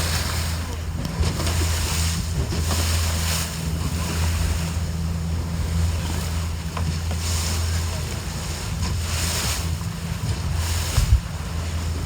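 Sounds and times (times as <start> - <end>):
boat engine humming: 0.0 - 12.0
water noise around hull: 0.0 - 12.0.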